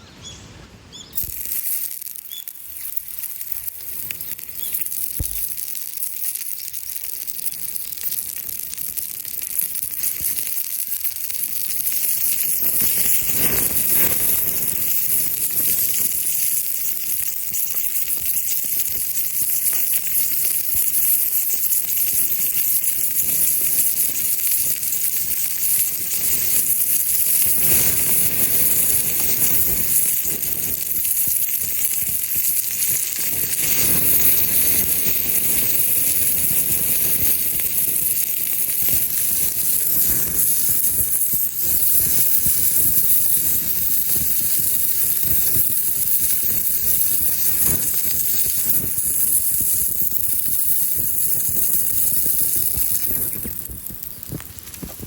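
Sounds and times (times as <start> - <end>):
food sizzling and crackling: 1.2 - 55.0.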